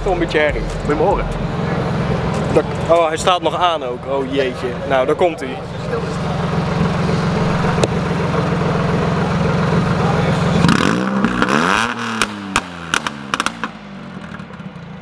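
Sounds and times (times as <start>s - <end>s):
car engine idling and revving: 0.0s - 15.0s
exhaust pops: 0.0s - 15.0s.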